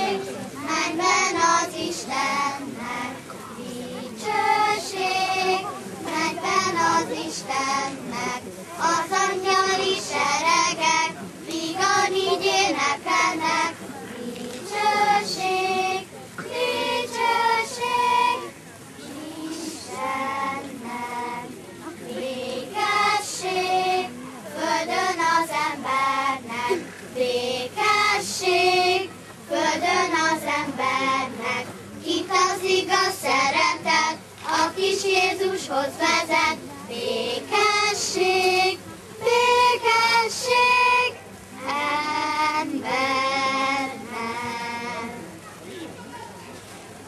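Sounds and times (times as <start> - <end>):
children singing: 0.0 - 45.2.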